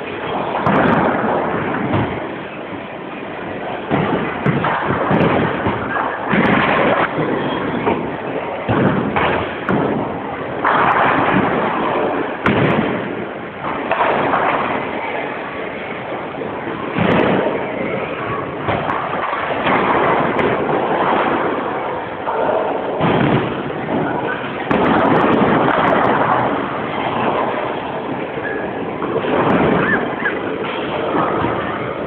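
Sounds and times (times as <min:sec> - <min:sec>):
bowling pins crashing: 0:00.0 - 0:02.3, 0:03.8 - 0:15.1, 0:16.8 - 0:32.0
bowling balls rumbling down lanes: 0:00.0 - 0:32.0.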